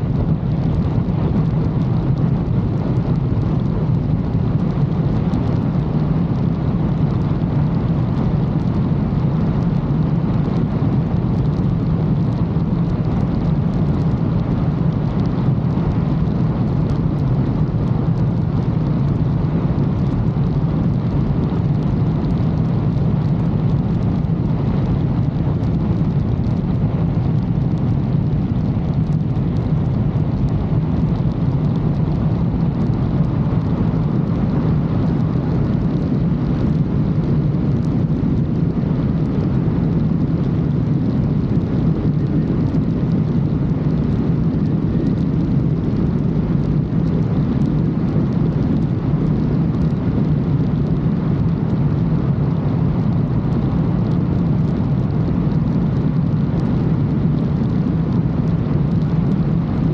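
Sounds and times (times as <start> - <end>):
wind noise on microphone: 0.0 - 59.9.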